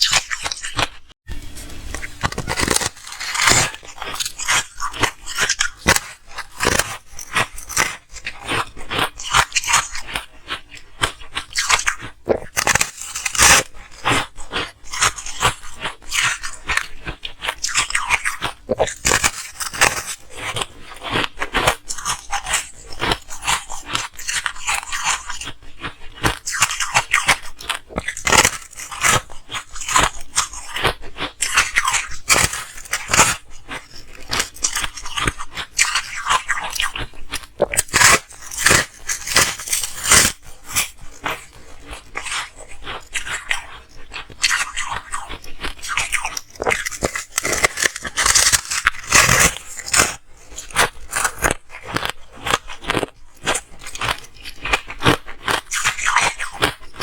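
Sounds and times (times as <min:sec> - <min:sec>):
ice being crunched by teeth: 0:00.0 - 0:01.1, 0:01.9 - 0:57.0.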